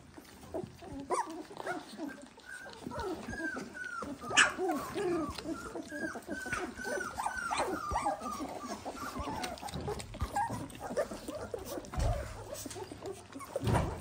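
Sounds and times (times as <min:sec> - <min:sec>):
puppies squeaking and whimpering: 0:00.0 - 0:14.0.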